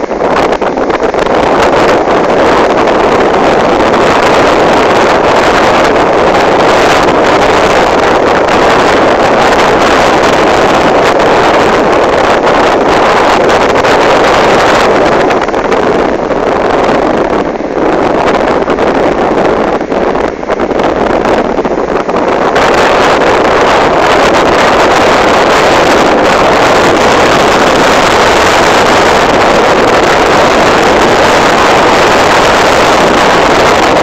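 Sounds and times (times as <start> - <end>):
loud steady rushing noise: 0.0 - 34.0.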